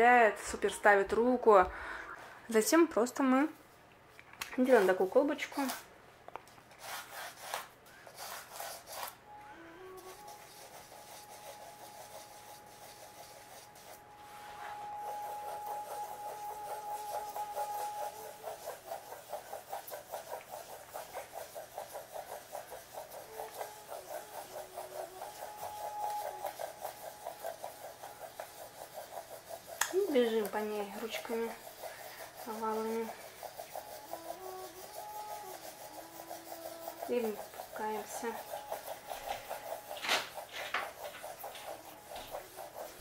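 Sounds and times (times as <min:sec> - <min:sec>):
pencil scratching on paper: 0:04.6 - 0:05.8, 0:06.7 - 0:09.2, 0:10.0 - 0:43.0.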